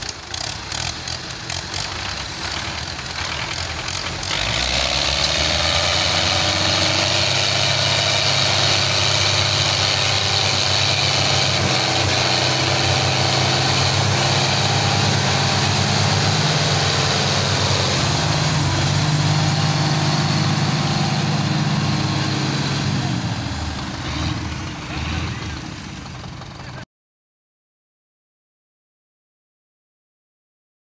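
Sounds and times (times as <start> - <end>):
tractor diesel engines under load: 0.0 - 26.9.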